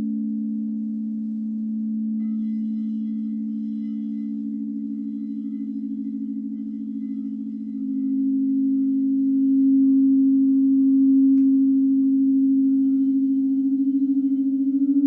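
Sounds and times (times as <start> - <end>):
crystal singing bowls tone: 0.0 - 15.0.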